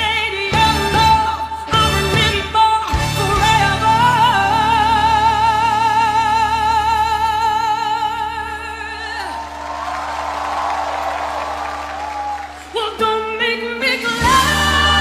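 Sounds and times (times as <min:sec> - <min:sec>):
backing music: 0:00.0 - 0:15.0.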